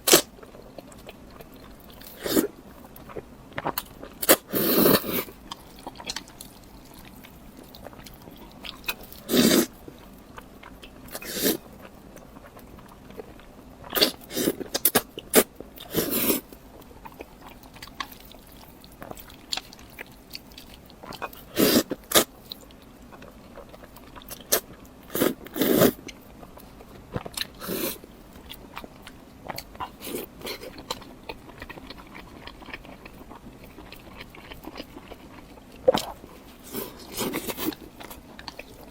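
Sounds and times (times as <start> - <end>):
close-miked chewing and bites: 0.0 - 38.9.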